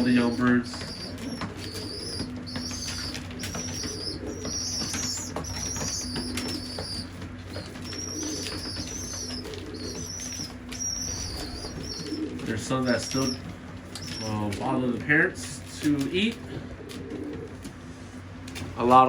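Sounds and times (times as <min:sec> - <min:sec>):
wings flapping: 0:00.0 - 0:19.0
young pigeons squeaking: 0:00.0 - 0:19.0.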